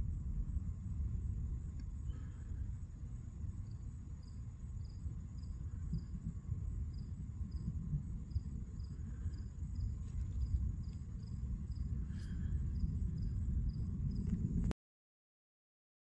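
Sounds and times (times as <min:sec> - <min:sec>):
crickets chirping: 0:00.0 - 0:14.7
steady low rumble: 0:00.0 - 0:14.8.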